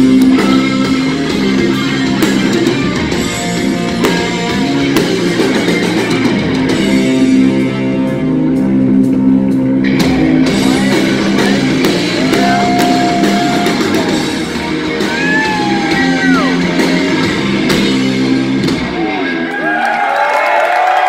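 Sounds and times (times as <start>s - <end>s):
heavy rock band playing live: 0.0s - 19.5s.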